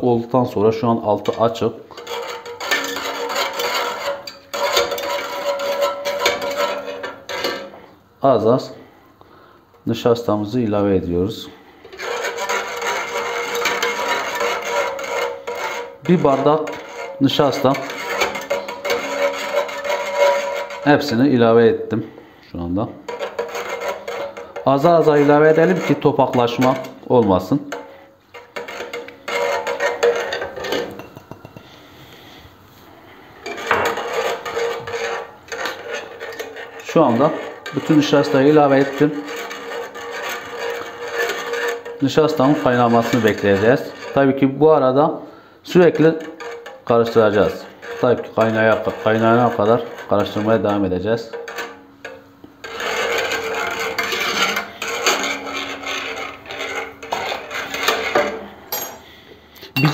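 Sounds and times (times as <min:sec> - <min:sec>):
wire whisk scraping a pot: 0:00.4 - 0:07.9, 0:09.9 - 0:59.2.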